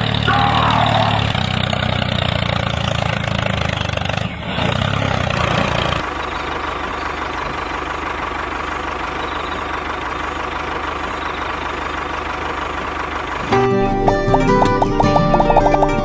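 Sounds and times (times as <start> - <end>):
toy tractor engine: 0.0 - 16.0.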